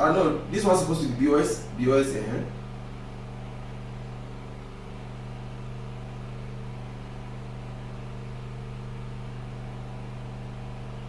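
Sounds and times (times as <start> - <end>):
steady low hum with buzz: 0.0 - 11.0.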